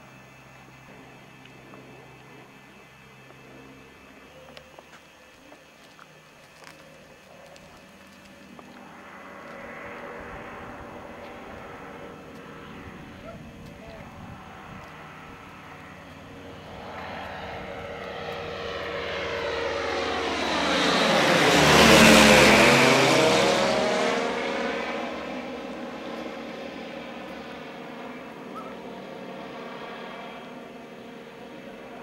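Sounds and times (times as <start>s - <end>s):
light aeroplane engine passing: 0.0s - 32.0s.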